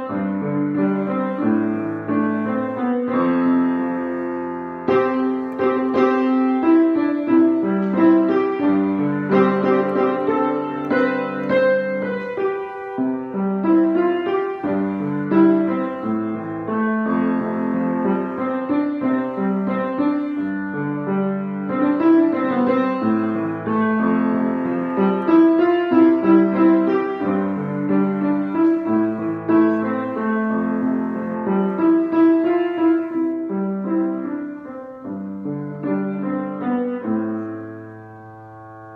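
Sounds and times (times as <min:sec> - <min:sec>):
piano piece: 0:00.0 - 0:38.9.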